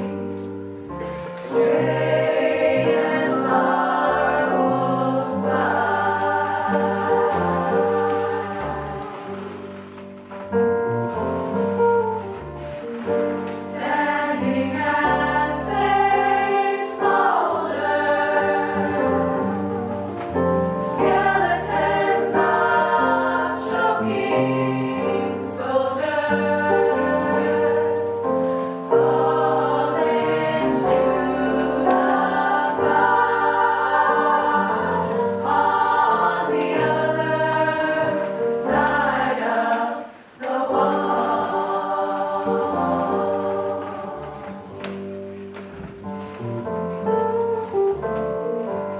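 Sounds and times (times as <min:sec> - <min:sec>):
choir singing in harmony: 0:00.0 - 0:10.0, 0:13.4 - 0:45.0.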